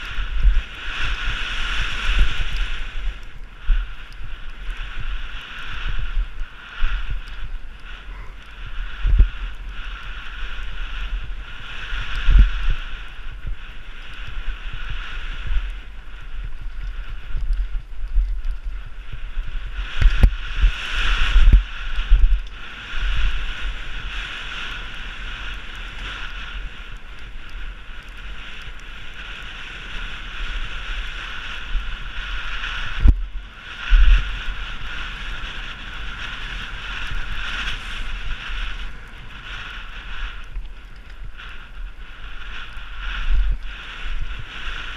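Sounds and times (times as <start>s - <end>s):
wind rush on microphone: 0.0s - 44.9s.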